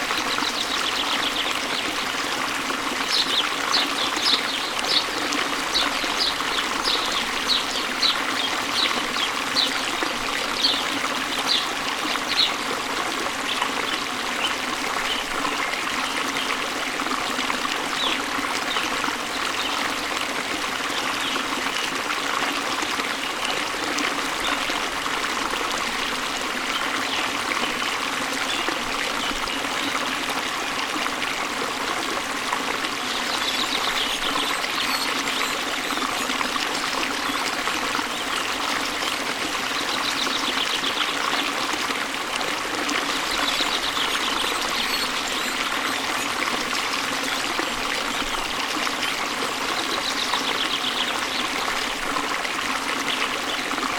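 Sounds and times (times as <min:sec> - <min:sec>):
waterfall and stream rushing: 0:00.0 - 0:53.9.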